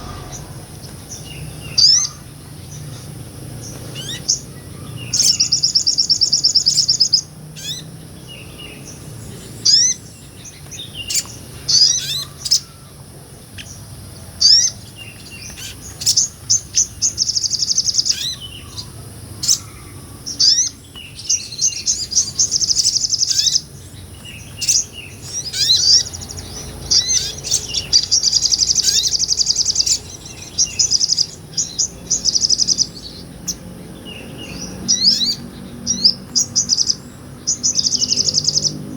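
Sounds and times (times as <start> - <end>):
bird buzzing trills: 0.0 - 38.9.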